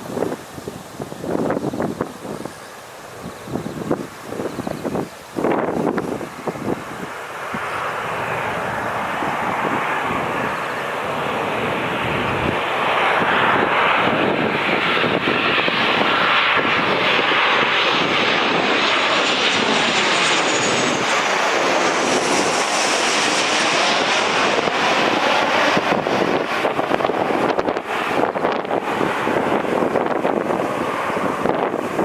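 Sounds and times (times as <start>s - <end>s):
jet engines roaring: 0.0s - 32.0s
wind buffeting microphone: 0.0s - 32.0s.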